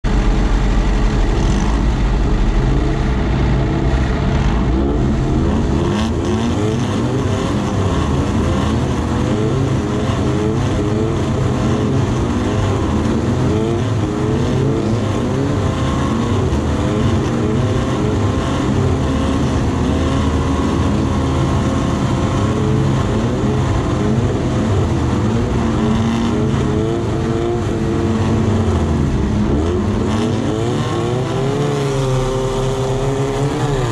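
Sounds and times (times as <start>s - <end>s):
other race car engines running: 0.0s - 33.9s
race buggy engine idling: 0.0s - 33.9s.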